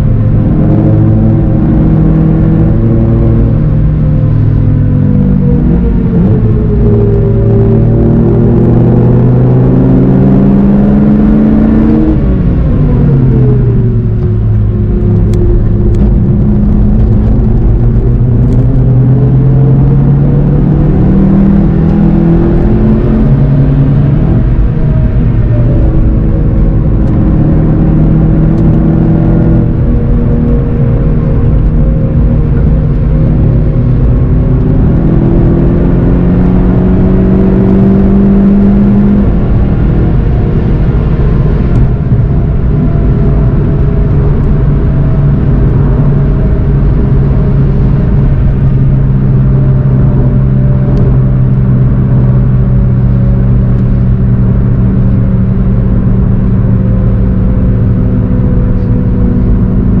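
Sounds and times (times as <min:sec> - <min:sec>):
car engine accelerating: 0:00.0 - 1:00.0.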